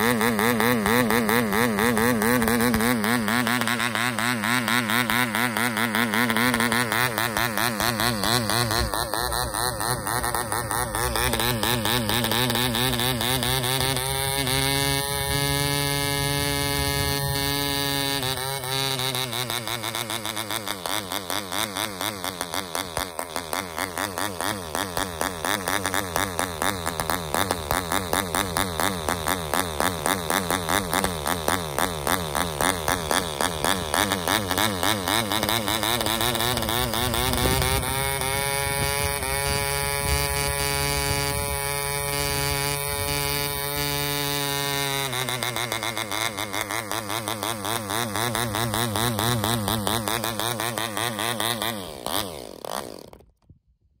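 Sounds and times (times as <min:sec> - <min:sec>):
model diesel engine running: 0:00.0 - 0:53.4.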